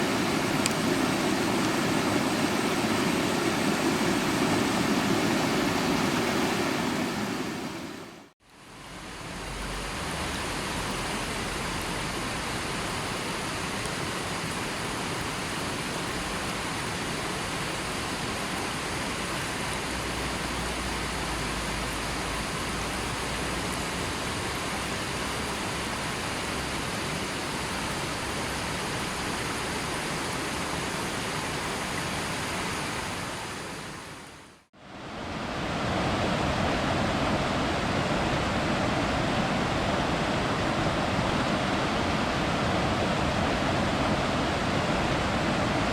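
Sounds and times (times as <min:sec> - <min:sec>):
flowing river water: 0:00.0 - 0:45.9.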